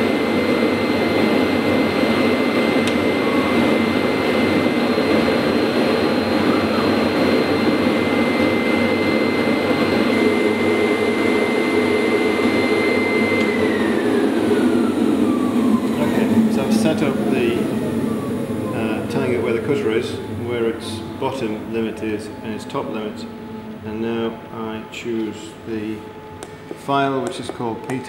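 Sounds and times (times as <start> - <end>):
machine router whining: 0.0 - 28.0.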